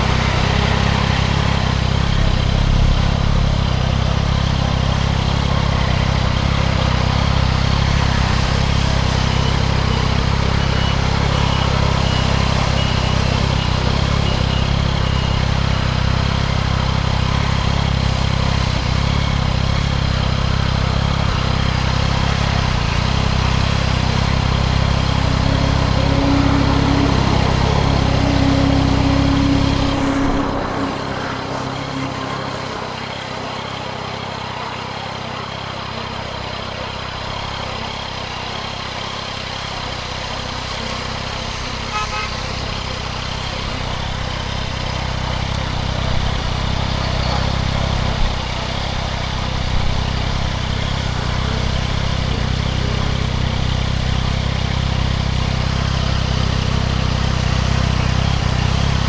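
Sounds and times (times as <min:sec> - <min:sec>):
motorcycle engine humming: 0:00.0 - 0:59.0.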